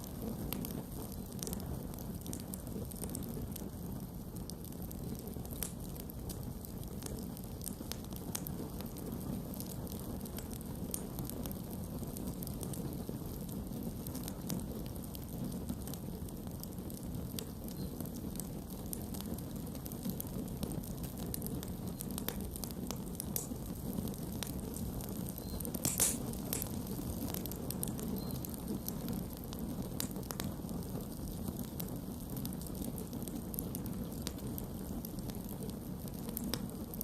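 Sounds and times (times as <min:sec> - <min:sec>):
campfire burning: 0:00.0 - 0:37.0
wood crackling and popping: 0:00.0 - 0:37.0.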